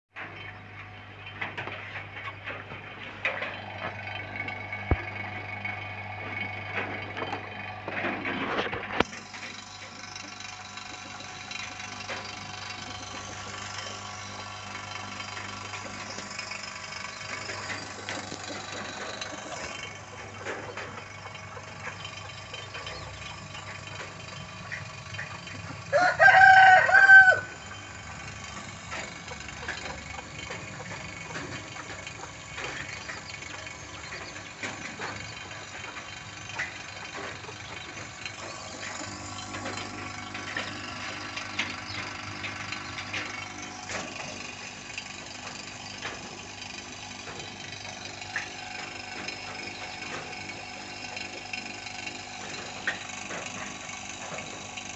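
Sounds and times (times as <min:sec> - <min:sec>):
vacuum pump running: 0:00.1 - 0:54.9.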